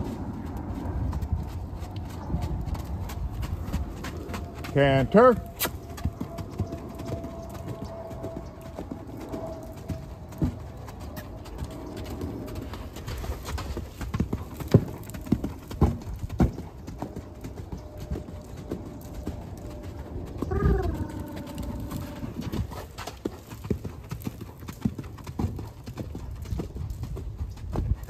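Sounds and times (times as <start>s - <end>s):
horse hoofbeats on dirt: 0.0s - 28.0s.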